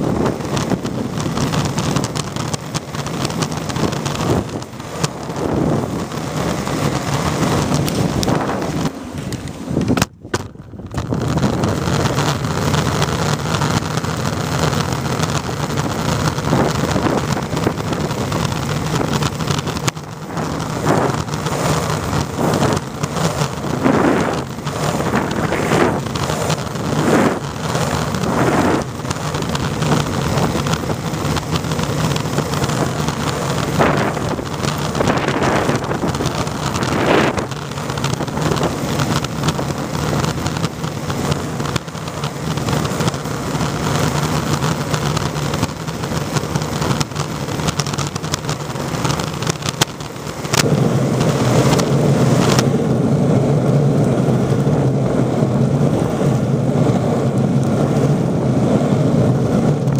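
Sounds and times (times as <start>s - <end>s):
longboard wheels rolling on asphalt: 0.0s - 59.9s
wind buffeting microphone: 0.0s - 59.9s.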